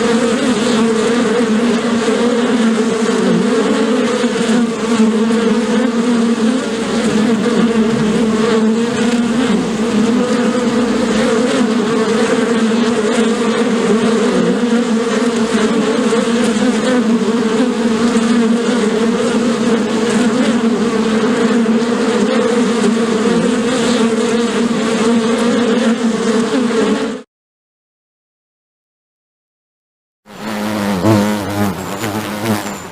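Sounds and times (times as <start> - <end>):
bees buzzing: 0.0 - 27.2, 30.3 - 32.9.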